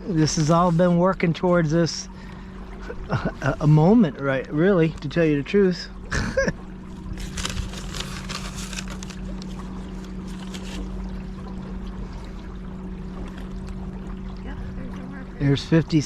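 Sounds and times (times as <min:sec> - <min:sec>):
electric boat motor humming: 0:00.0 - 0:16.0
water splashing along hull: 0:00.0 - 0:16.0.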